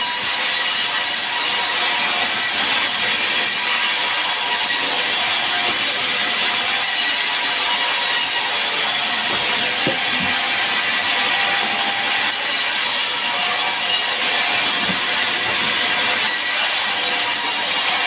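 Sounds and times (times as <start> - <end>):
sawmill saw cutting timber: 0.0 - 18.0.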